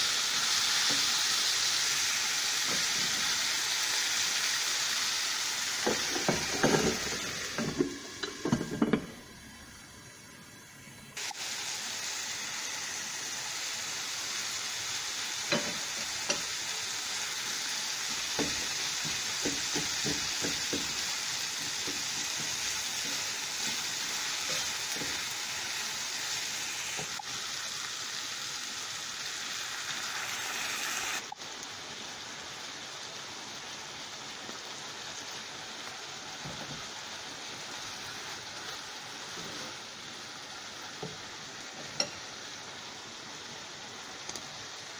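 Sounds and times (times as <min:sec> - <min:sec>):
food sizzling in frying pan: 0:00.0 - 0:44.9.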